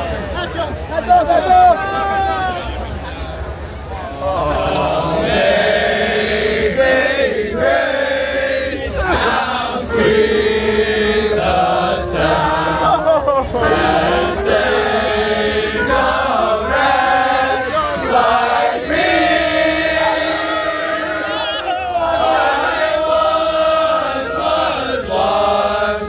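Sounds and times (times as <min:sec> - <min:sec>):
crowd singing a chant: 0:04.2 - 0:26.0.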